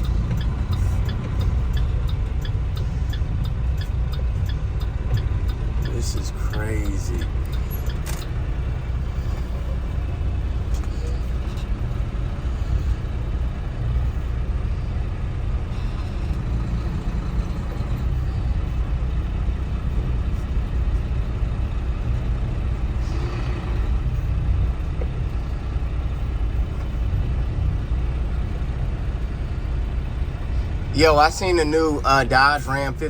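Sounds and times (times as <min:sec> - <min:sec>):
road noise: 0:00.0 - 0:33.0
truck engine rumble: 0:00.0 - 0:33.0.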